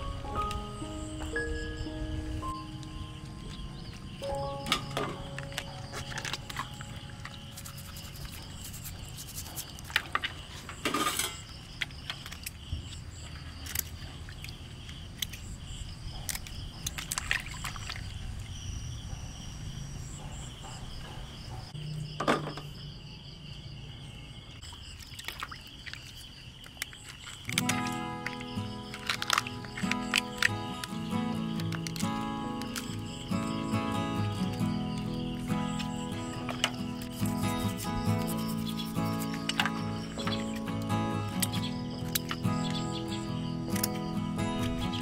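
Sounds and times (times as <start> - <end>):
water sloshing and trickling: 0.0 - 19.2, 23.9 - 45.0
pulsing insect chirp: 0.0 - 45.0.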